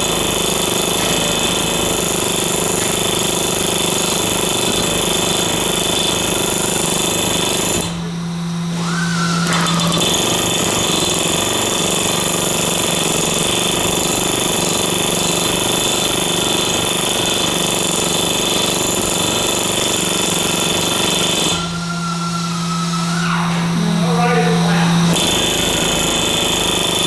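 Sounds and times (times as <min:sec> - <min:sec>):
power tool running: 0:00.0 - 0:27.0.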